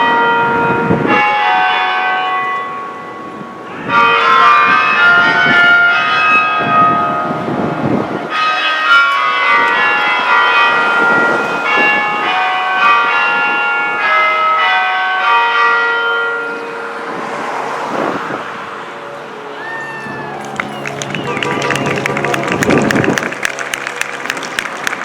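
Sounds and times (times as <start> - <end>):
tower bells ringing: 0.0 - 17.7, 18.6 - 24.3.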